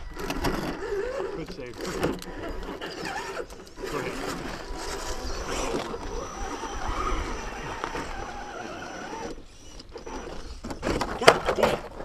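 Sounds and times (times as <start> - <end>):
electric motor whining: 0.0 - 11.1.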